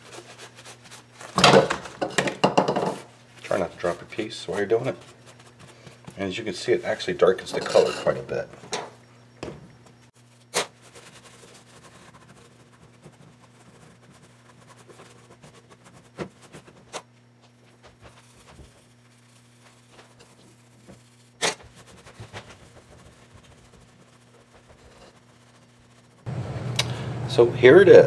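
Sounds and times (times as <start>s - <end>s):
paper towel rustling: 0.0s - 2.0s, 2.9s - 8.7s, 10.1s - 26.3s
steady low hum: 0.0s - 28.0s.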